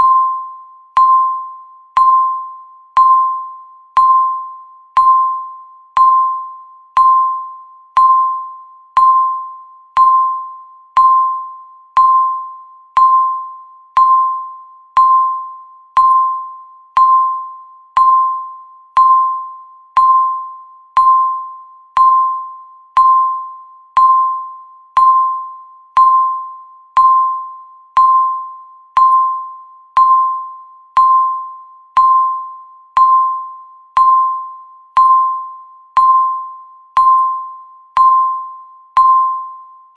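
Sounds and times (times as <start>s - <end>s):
countdown timer beeping: 0.0s - 39.6s.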